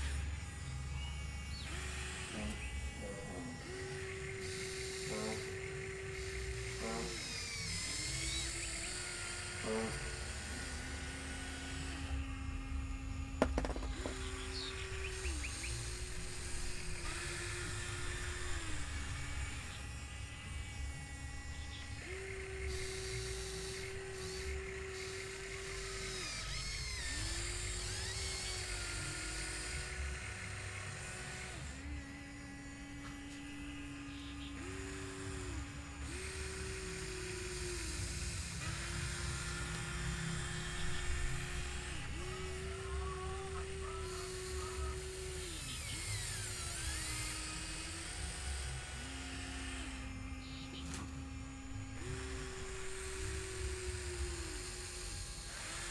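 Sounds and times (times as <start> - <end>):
electric motors whining: 0.0 - 55.9.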